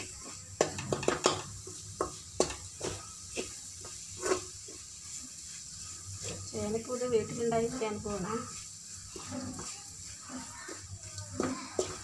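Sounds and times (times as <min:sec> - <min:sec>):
faint sizzle of frying: 0:00.0 - 0:12.0
spoon scraping metal pan: 0:00.0 - 0:12.0.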